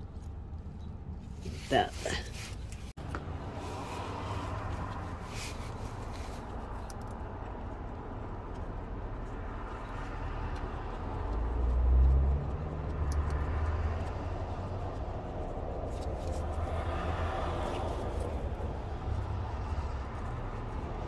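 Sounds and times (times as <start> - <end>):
motor vehicle rumbling: 0.0 - 21.0.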